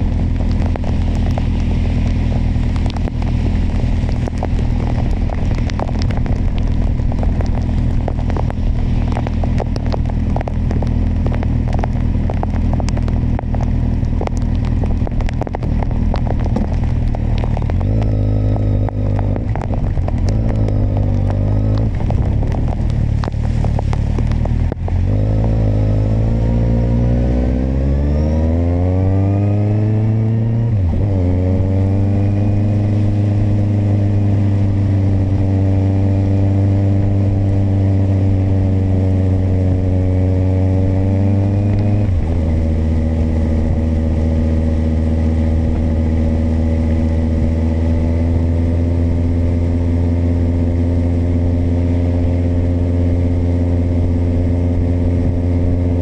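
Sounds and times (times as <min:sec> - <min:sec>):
motorcycle engine running: 0:00.0 - 0:56.0
wind and rain noise: 0:00.0 - 0:56.0.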